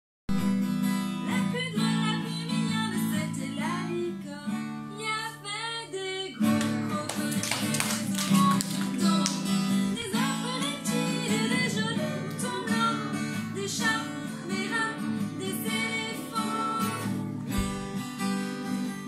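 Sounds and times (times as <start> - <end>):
acoustic guitar strumming: 0.3 - 4.9, 6.4 - 19.0
person singing: 1.2 - 17.8.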